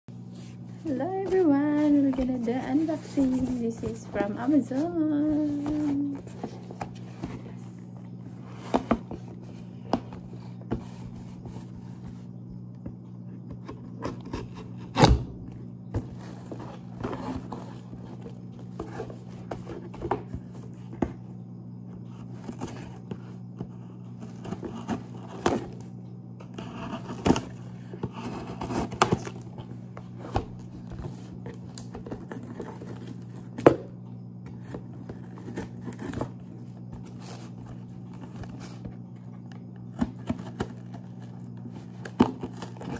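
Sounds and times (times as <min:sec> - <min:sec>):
steady low hum: 0:00.1 - 0:42.9.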